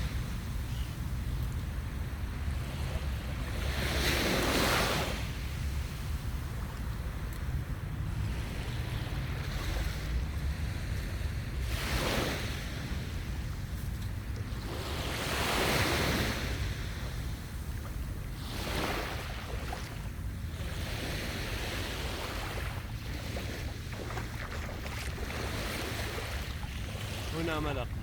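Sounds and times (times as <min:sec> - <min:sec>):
sea waves washing onto beach: 0:00.0 - 0:28.0
wind rumbling on microphone: 0:00.0 - 0:28.0.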